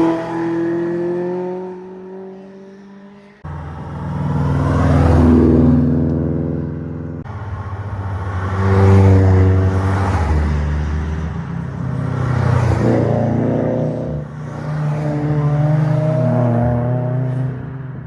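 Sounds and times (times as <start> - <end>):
cars passing with engines revving: 0.0 - 18.0.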